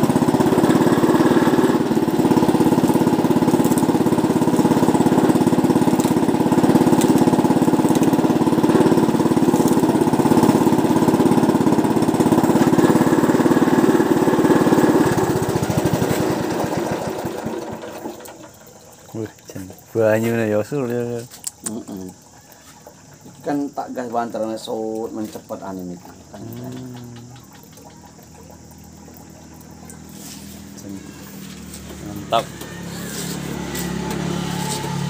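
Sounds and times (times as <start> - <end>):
small engine driving juicer rollers: 0.0 - 35.0.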